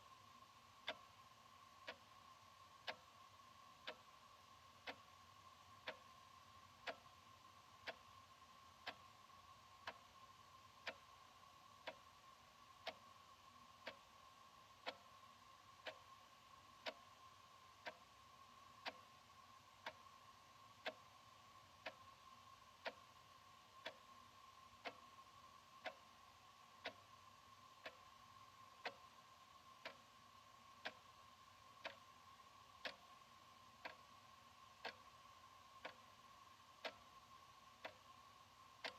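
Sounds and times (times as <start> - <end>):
faint steady hum: 0.0 - 38.9
wall clock ticking: 0.7 - 38.9.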